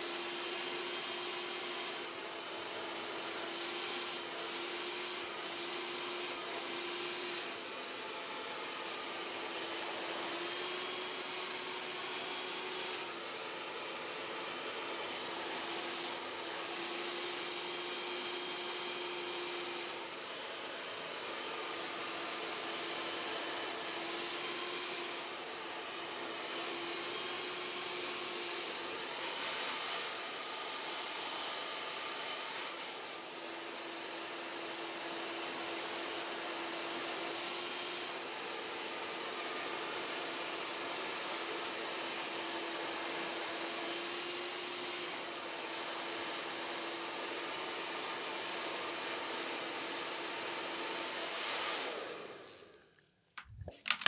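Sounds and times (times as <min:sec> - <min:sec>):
electric blower motor running: 0:00.0 - 0:43.8, 0:46.9 - 0:54.0.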